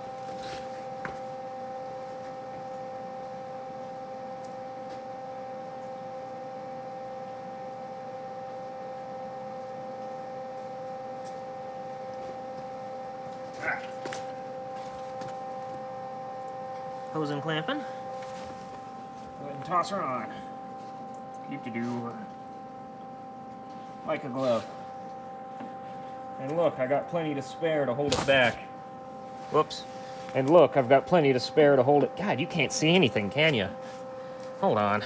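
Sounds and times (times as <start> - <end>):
motor whine hum: 0.0 - 35.0.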